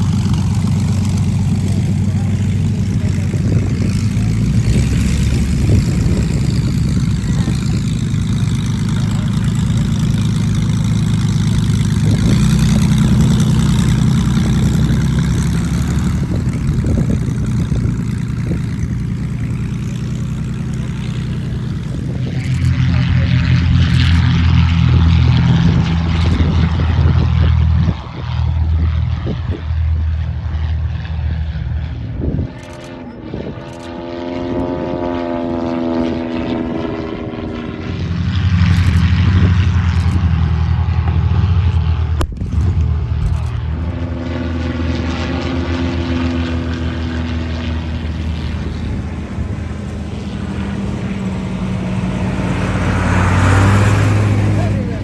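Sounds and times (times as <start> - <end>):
distant plane at takeoff power: 0.0 - 55.0
plane flying past overhead: 0.0 - 55.0
propeller plane engine taxiing: 0.0 - 55.0.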